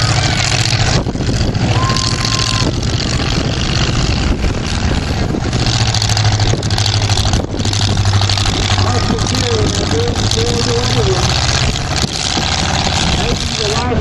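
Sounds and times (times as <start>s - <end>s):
motorsport engines running: 0.0s - 14.0s.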